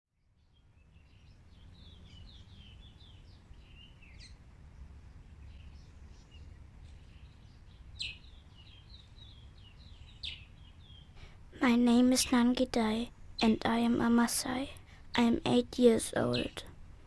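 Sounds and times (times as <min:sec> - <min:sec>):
small birds chirping: 0:00.3 - 0:17.0
sharp bird calls: 0:00.5 - 0:14.6.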